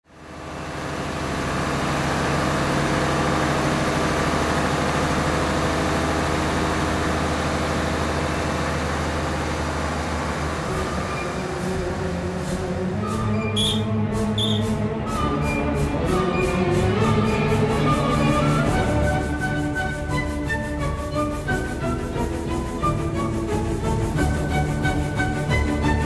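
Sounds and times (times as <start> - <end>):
diesel locomotive engine drone: 0.1 - 26.0.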